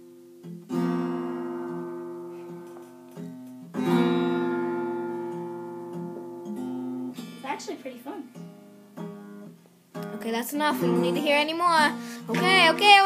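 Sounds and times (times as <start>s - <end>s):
acoustic guitar strum: 0.0s - 13.0s
guitar string plucks: 0.4s - 13.0s.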